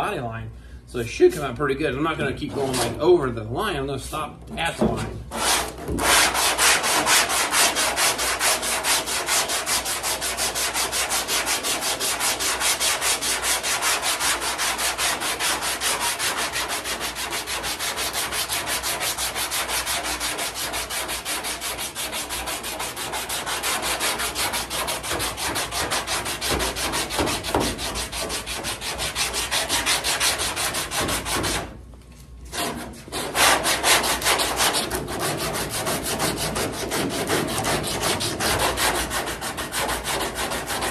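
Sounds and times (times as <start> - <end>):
sandpaper rasping strokes: 5.3 - 31.7, 32.5 - 40.9.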